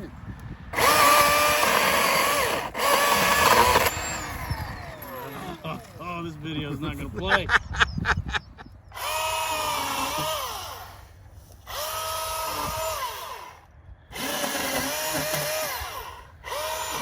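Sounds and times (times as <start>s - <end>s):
battery chainsaw motor whine: 0.7s - 6.4s, 8.9s - 17.0s.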